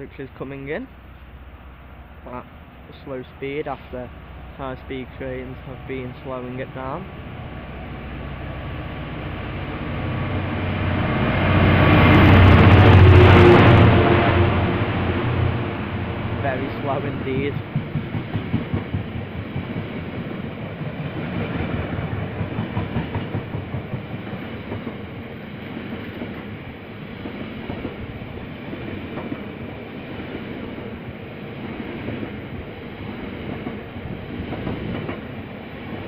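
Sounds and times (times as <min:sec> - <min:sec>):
train wagons rumbling past: 0:00.0 - 0:36.0.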